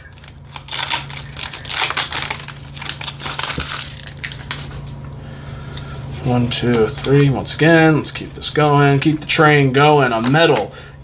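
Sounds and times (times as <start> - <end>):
foil wrapper crinkling: 0.0 - 5.1, 6.1 - 10.7.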